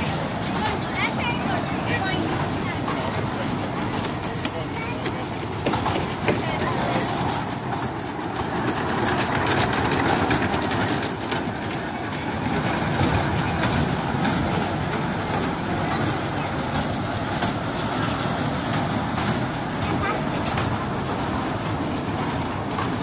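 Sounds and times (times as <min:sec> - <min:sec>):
kiddie train rumbling: 0:00.0 - 0:23.0
voices: 0:00.0 - 0:23.0
wheels clicking on rails: 0:00.0 - 0:23.0.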